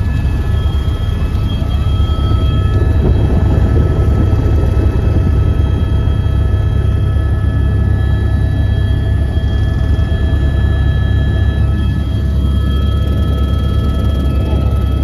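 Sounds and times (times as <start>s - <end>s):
helicopter rotor and engine rumble: 0.0s - 15.0s
high turbine whine: 0.0s - 15.0s.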